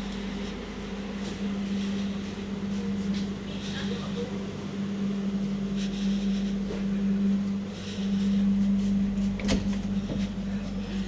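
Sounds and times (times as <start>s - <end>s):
electrical hum of train carriage: 0.0s - 11.0s.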